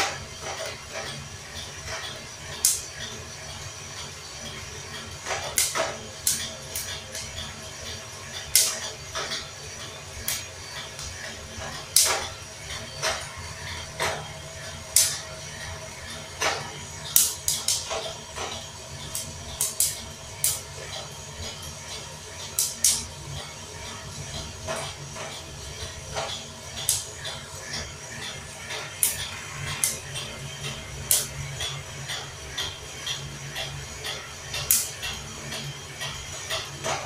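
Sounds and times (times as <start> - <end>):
roaster low hum: 0.0 - 37.0.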